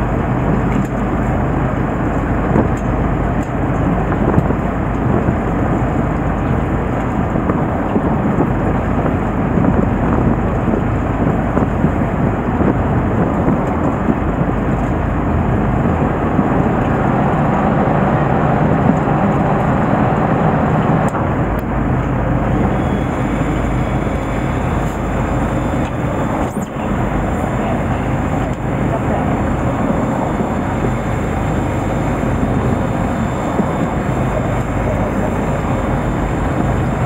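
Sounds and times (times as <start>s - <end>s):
boat engine running: 0.0s - 37.0s
water against hull: 0.0s - 37.0s
wind buffeting microphone: 0.0s - 37.0s.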